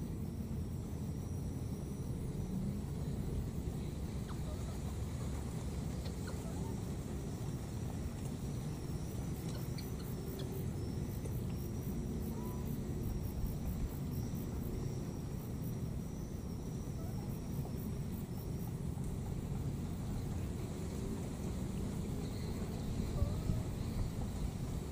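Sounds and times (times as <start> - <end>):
insects chirping: 0.0 - 24.9
low motor rumble: 0.0 - 24.9.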